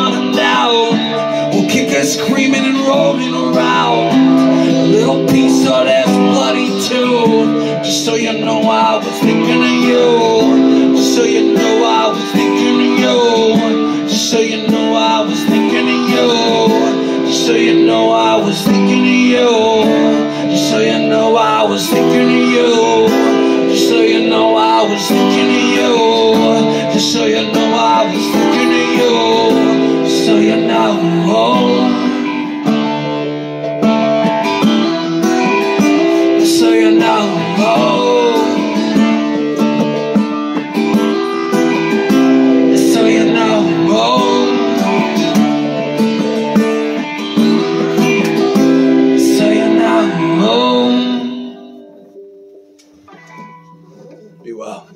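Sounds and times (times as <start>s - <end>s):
acoustic guitar strumming chords: 0.0s - 54.9s
wordless bending melody: 0.0s - 54.9s.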